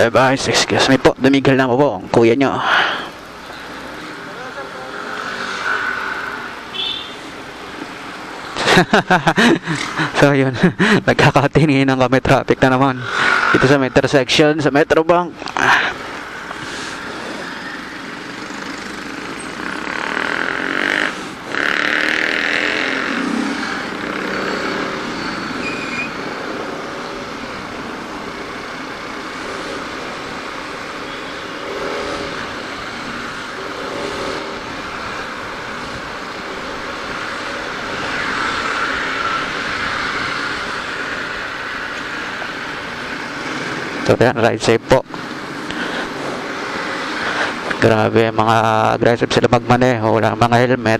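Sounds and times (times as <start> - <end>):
hum of traffic: 0.0 - 50.9
motorcycle and car engines: 0.0 - 50.9.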